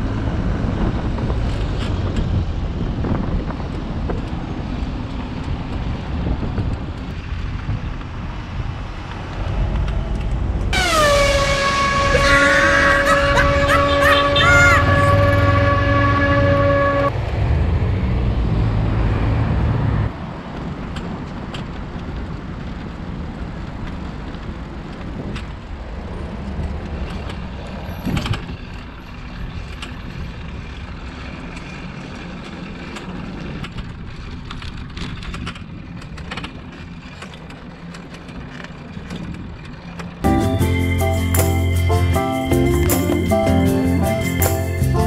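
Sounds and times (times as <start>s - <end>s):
heavy vehicle rumble: 0.0s - 45.0s
road noise: 0.0s - 45.0s.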